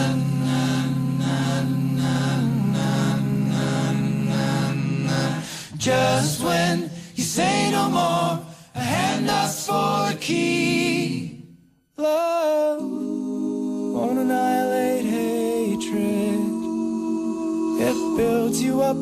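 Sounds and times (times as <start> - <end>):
men singing a cappella: 0.0 - 19.0.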